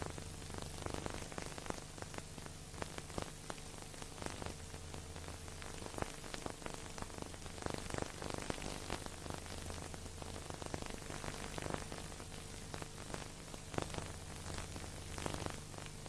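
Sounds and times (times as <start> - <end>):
static hiss with crackling: 0.0 - 16.0.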